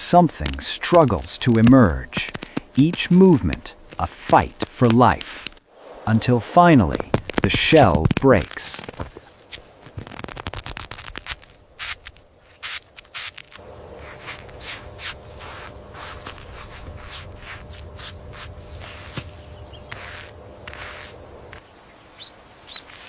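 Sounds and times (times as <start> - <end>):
eggshell cracking: 0.0 - 5.6, 6.9 - 9.2, 9.8 - 21.6
faint steady hum: 0.0 - 10.0, 11.4 - 22.6.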